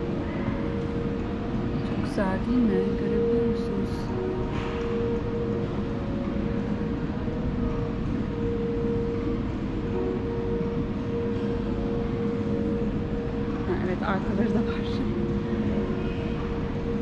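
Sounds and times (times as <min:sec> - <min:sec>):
air conditioning rumble and hum: 0:00.0 - 0:17.0.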